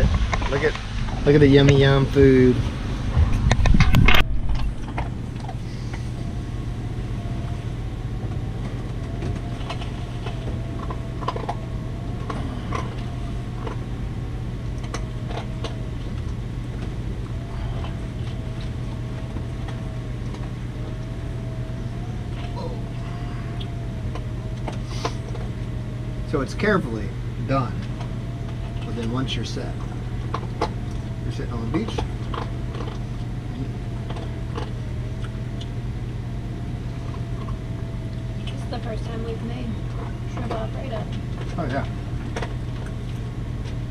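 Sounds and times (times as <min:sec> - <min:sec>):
steady mechanical hum: 0:00.0 - 0:43.9
faint wavering tone: 0:03.6 - 0:43.9.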